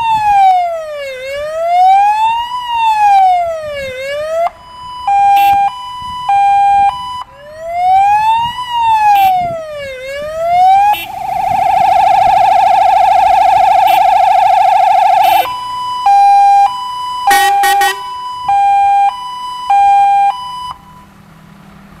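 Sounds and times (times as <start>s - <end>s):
fire engine electronic siren: 0.0s - 21.2s.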